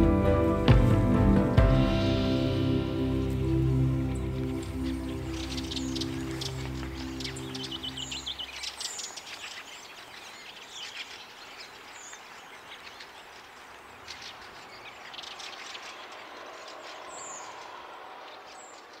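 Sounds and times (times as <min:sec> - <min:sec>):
small birds chirping: 0:01.8 - 0:19.0
faint steady hiss: 0:01.9 - 0:18.1.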